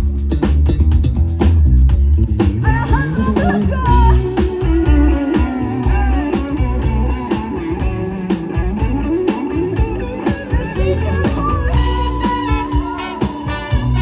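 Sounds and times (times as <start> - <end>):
live band playing: 0.0 - 14.0
lead guitar sliding and bending: 2.4 - 14.0.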